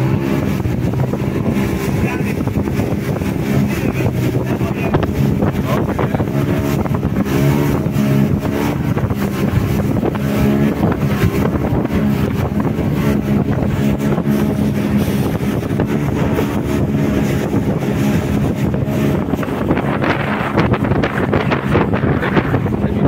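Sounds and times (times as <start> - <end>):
boat motor running: 0.0 - 23.0
wind buffeting microphone: 0.0 - 23.0.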